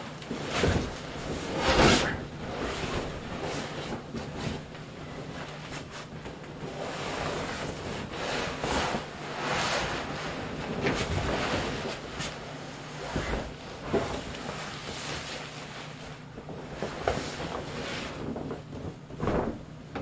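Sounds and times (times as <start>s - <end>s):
plastic and vinyl rustling: 0.0s - 20.0s.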